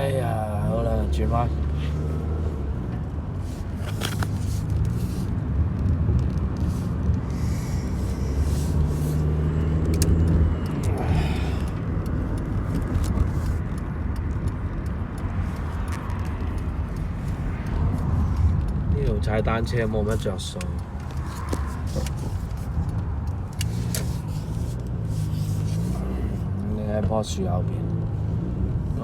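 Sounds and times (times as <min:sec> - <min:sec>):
car engine rumbling: 0:00.0 - 0:29.0
road noise: 0:00.0 - 0:29.0.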